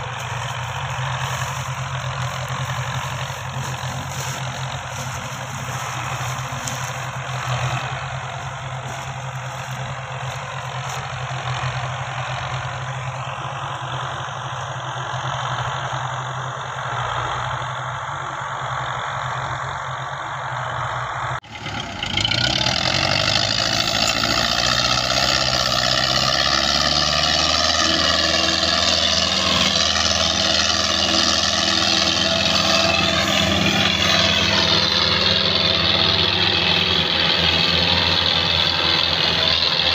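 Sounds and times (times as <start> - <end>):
tractor diesel engine running: 0.0 - 39.9
tractor engine running hard: 0.0 - 39.9.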